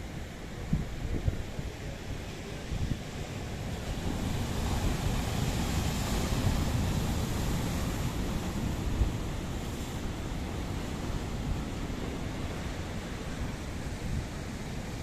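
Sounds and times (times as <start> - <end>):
sea waves breaking on shore: 2.3 - 15.0.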